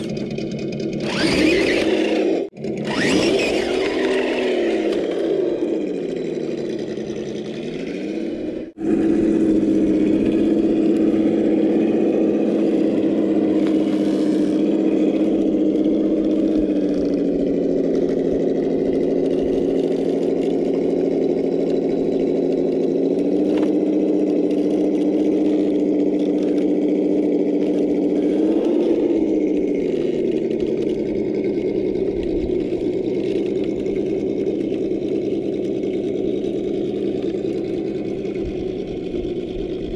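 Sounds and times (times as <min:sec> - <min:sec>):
electric motor and gears whining: 0:00.0 - 0:39.9.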